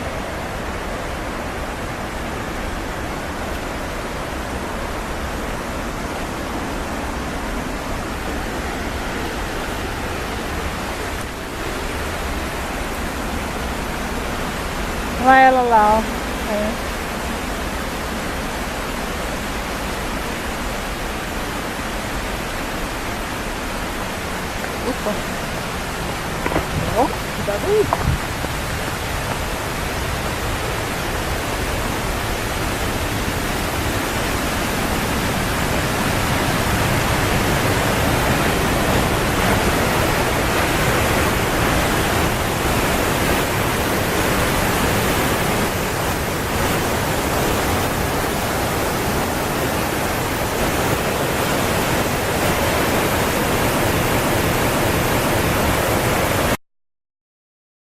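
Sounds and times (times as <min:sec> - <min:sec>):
waterfall rushing: 0:00.0 - 0:56.6.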